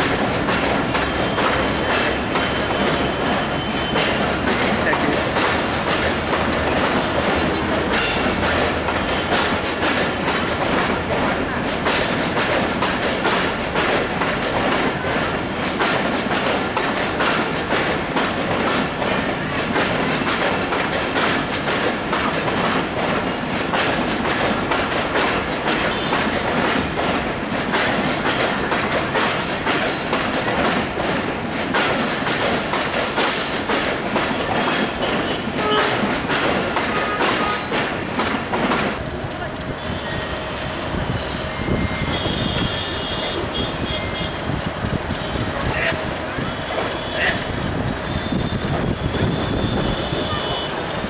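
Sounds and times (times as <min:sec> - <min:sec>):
train wheels clattering: 0:00.0 - 0:51.0.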